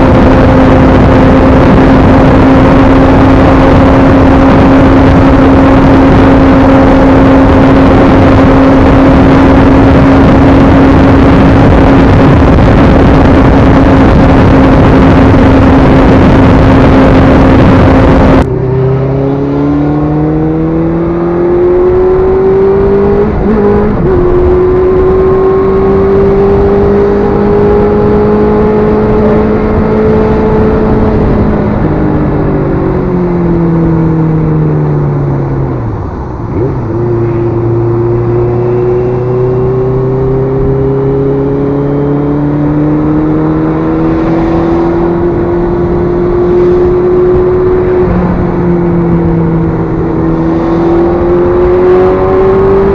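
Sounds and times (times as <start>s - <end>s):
heavy wind noise: 0.0s - 52.9s
motorcycle engine: 0.0s - 52.9s.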